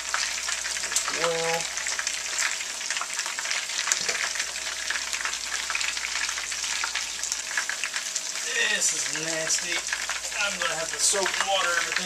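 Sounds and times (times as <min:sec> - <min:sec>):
meat frying in hot grease: 0:00.0 - 0:12.0.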